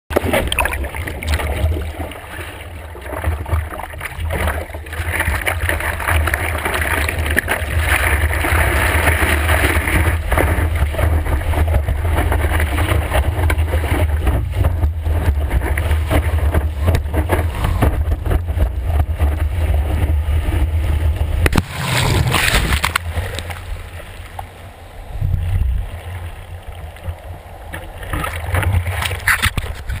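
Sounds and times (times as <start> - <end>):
low rumble of water on camera: 0.1 - 30.0
water rushing and splashing: 0.1 - 30.0.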